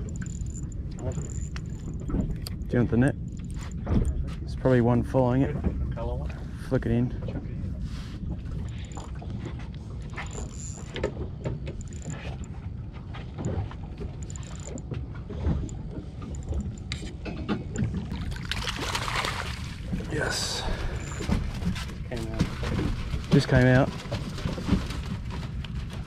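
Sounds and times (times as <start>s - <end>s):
water and wind rumble: 0.0s - 26.0s.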